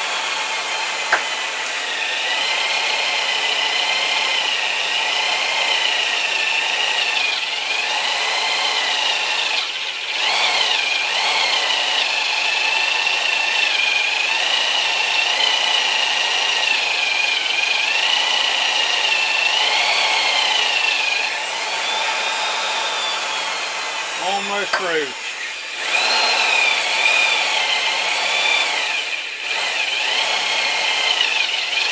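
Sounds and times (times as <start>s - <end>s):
drill hole saw cutting metal: 0.0s - 31.9s.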